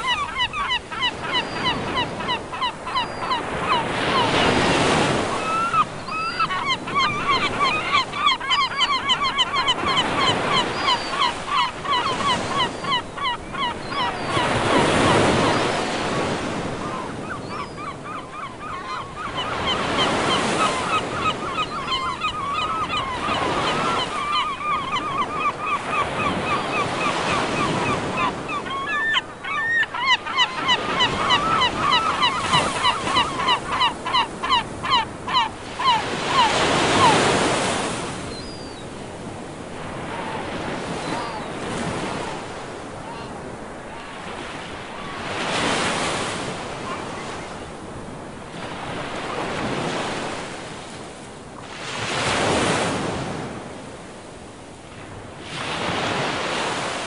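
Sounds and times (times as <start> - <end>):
seagulls calling: 0.0 - 47.8.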